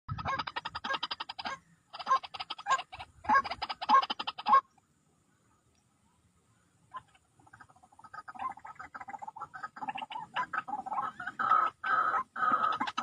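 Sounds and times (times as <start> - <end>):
waterhen calling harsh repeated notes: 0.1 - 4.7, 6.9 - 13.0.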